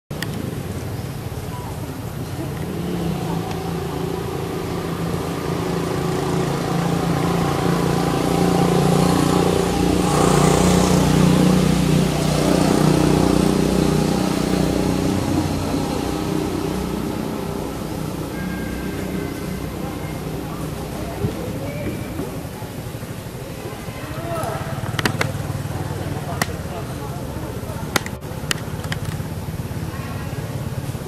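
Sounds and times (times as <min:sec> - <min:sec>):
vehicle engine running: 0:00.1 - 0:31.0.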